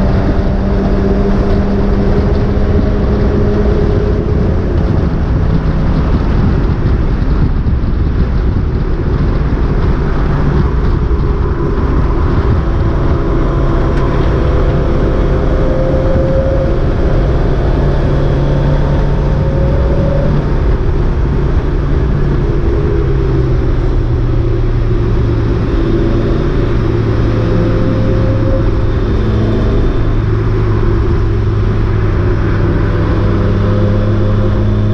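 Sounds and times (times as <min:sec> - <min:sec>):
race car engine running: 0:00.0 - 0:34.9
road and wind noise: 0:00.0 - 0:34.9.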